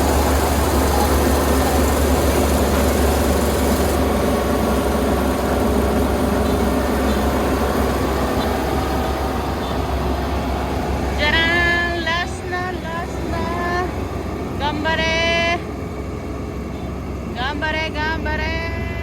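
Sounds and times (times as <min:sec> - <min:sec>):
combine harvester engine droning: 0:00.0 - 0:19.0.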